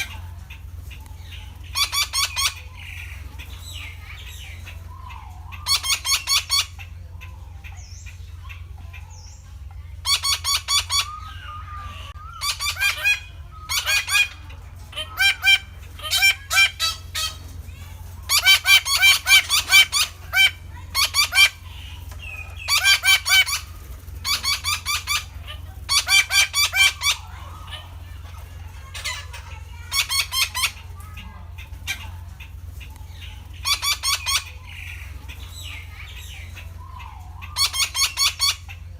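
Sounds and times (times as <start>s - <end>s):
parakeets calling: 0.0s - 38.9s
steady low hum: 0.0s - 38.9s.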